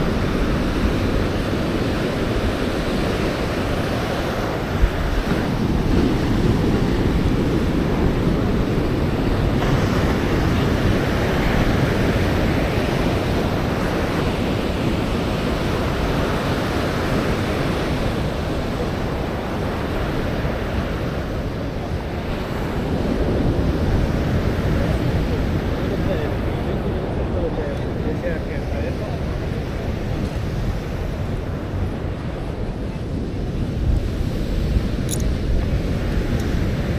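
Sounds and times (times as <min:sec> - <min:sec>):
ocean surf on sandy beach: 0:00.0 - 0:36.9
wind buffeting microphone: 0:00.0 - 0:36.9.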